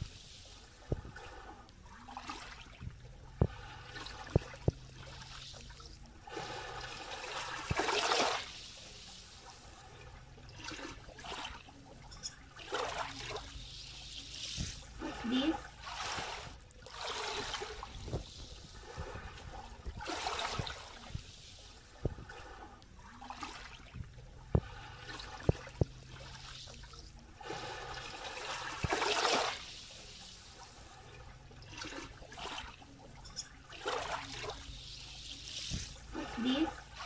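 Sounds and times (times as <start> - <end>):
small waves washing over sand: 3.4 - 10.0, 12.4 - 23.9, 24.5 - 33.0, 33.7 - 37.0.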